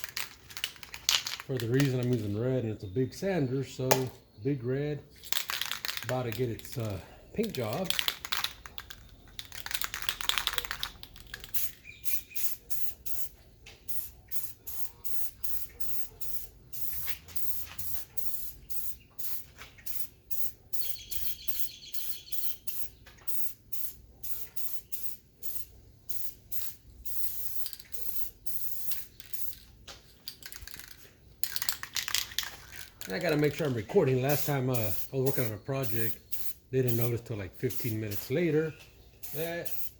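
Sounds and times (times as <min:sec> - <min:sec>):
spray paint hissing bursts: 0:05.2 - 0:29.6, 0:30.4 - 0:38.4, 0:39.2 - 0:39.9.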